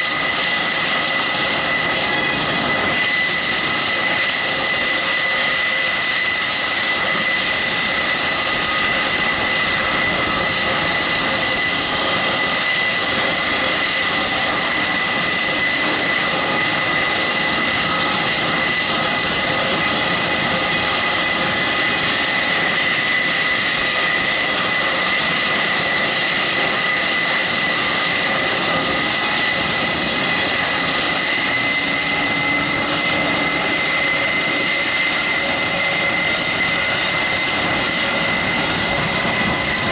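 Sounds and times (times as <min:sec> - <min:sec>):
high steady engine whine: 0:00.0 - 0:39.9
turboprop engines running: 0:00.0 - 0:39.9.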